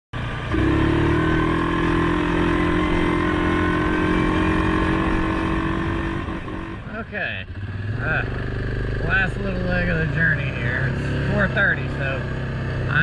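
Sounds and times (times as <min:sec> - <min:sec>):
atv engine running: 0:00.2 - 0:13.0.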